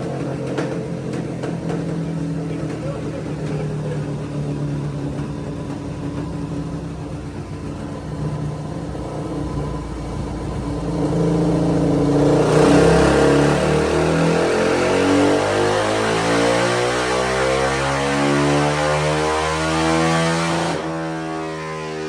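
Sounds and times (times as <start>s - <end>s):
motorcycle engine revving on a dyno: 0.0s - 22.0s.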